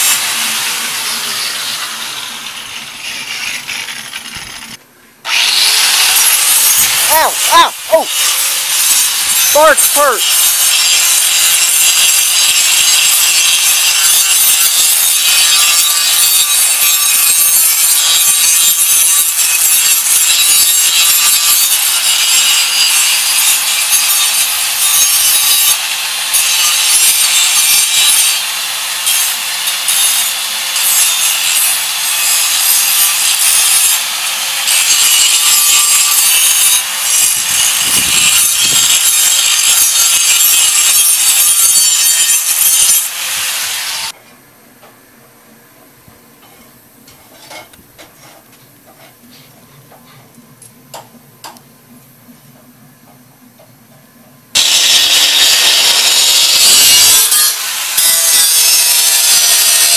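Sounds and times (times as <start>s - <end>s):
angle grinder cutting metal: 0.0s - 44.2s, 54.6s - 59.9s.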